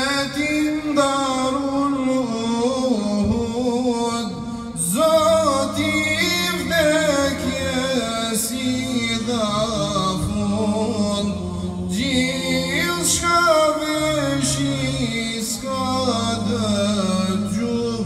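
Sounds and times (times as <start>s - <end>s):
men singing a devotional hymn: 0.0s - 18.0s.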